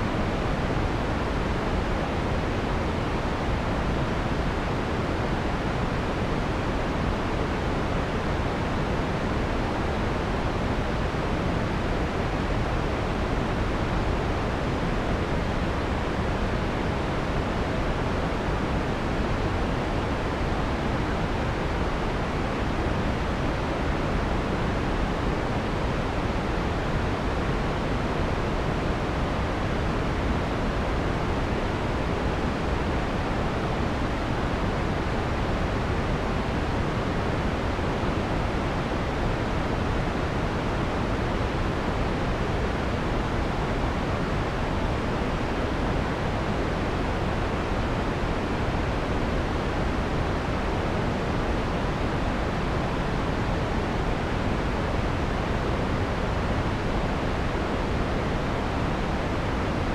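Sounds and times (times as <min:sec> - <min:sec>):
soft filtered white noise hiss: 0:00.0 - 0:59.9.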